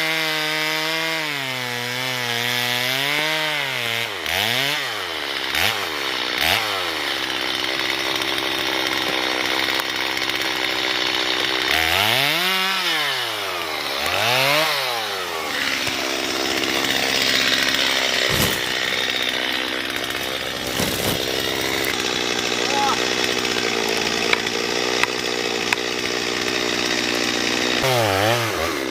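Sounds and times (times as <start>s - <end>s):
chainsaw cutting tree: 0.0s - 28.9s.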